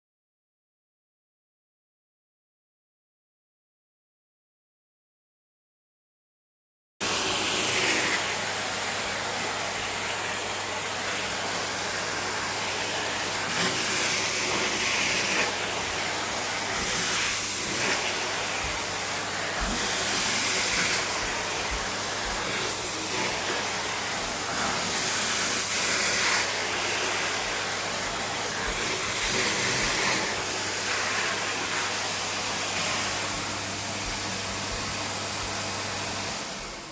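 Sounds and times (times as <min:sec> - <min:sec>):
vacuum cleaner running: 0:07.0 - 0:36.9.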